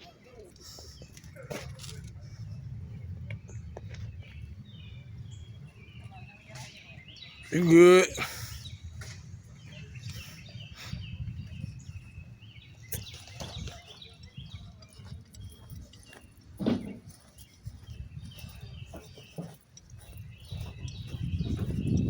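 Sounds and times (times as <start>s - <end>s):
birds chirping: 2.2s - 22.0s.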